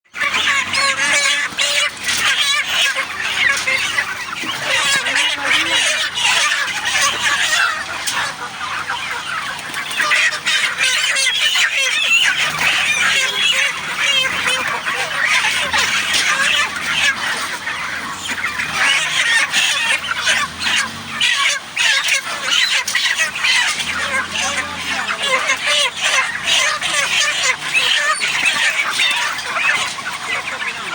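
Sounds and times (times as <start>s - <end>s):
chickens chirping and clucking: 0.1s - 30.9s.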